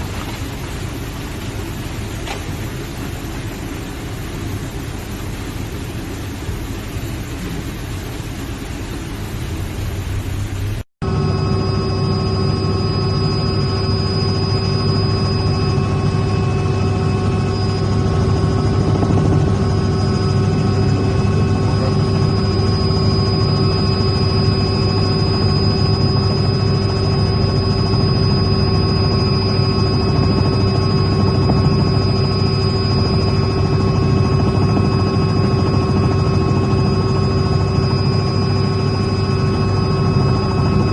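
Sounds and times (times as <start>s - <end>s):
machine drone with whining tones: 0.0s - 40.9s.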